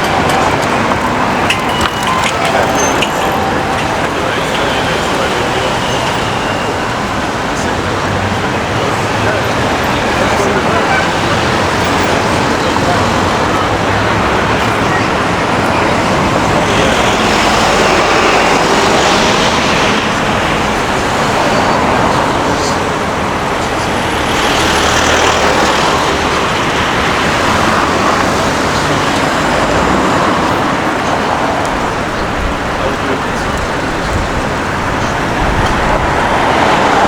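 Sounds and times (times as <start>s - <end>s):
road traffic: 0.0s - 37.0s.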